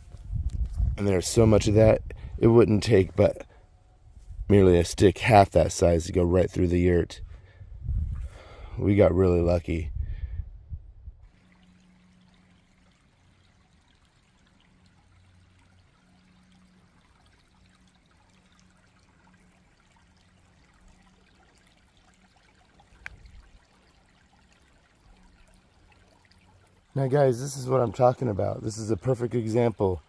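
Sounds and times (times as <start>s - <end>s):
faint trickling water: 0.0s - 30.0s.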